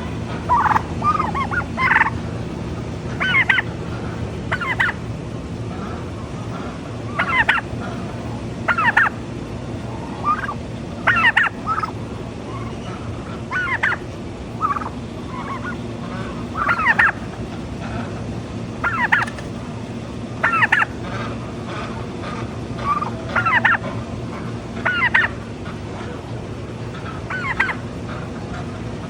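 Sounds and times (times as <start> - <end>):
steady low hum: 0.0 - 29.0
turkeys gobbling: 0.0 - 29.0.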